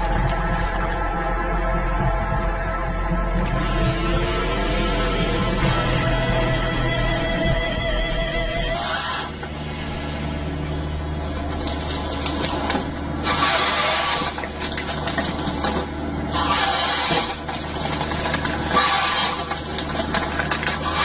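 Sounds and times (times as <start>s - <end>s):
tree-cutting machine engine hum: 0.0s - 21.0s.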